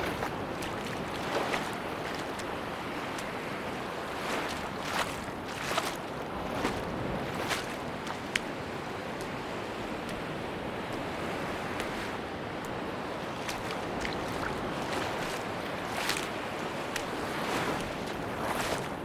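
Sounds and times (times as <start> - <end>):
footsteps crunching in sand: 0.0 - 19.0
sea surf on a beach: 0.0 - 19.0.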